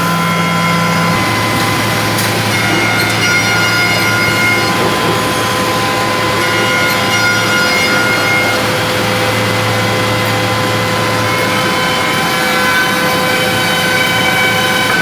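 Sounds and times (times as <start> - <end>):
machine hum and motor whine: 0.0 - 15.0.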